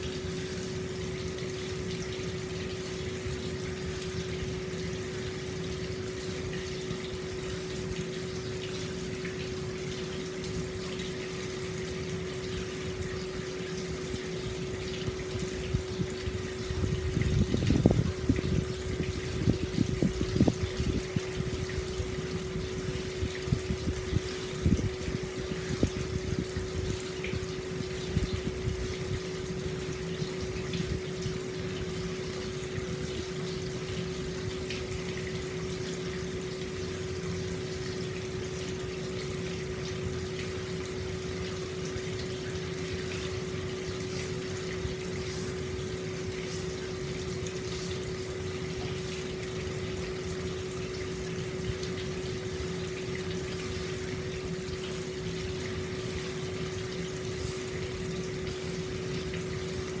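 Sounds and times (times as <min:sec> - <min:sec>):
steady hum: 0:00.0 - 1:00.0
water flowing into a bath: 0:00.0 - 1:00.0.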